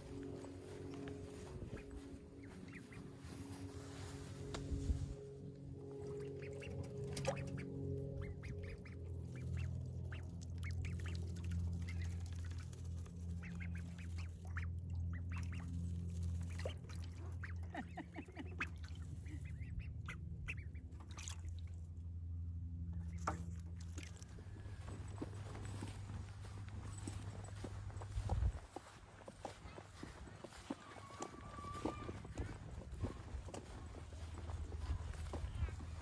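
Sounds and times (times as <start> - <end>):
ducks quacking: 0.0 - 4.9, 5.8 - 21.6, 23.1 - 36.0
low steady drone: 0.0 - 36.0.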